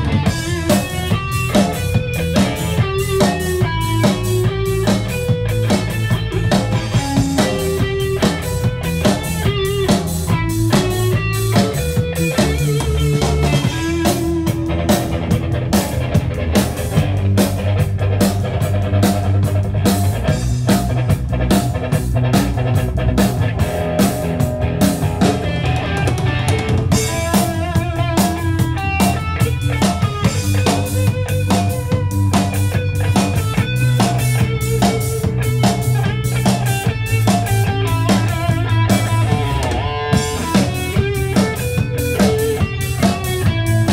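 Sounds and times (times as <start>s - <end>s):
drum kit: 0.0s - 43.9s
electric bass line: 0.0s - 43.9s
electric guitar: 0.0s - 43.9s.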